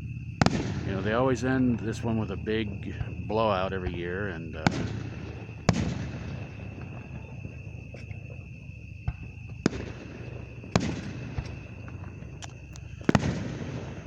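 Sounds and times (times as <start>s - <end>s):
fireworks booming: 0.0s - 14.0s
low rumble: 0.0s - 14.0s.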